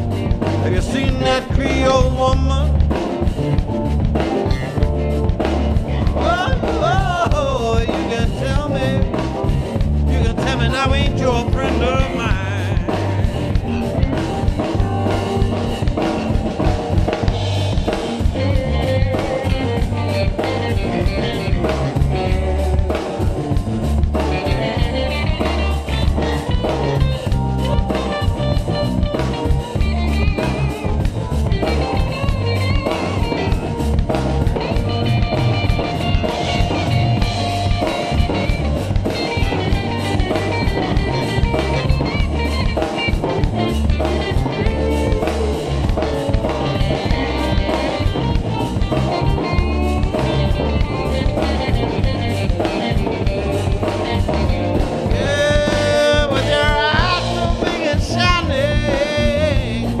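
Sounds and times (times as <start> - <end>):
blues-rock band playing: 0.0 - 60.0.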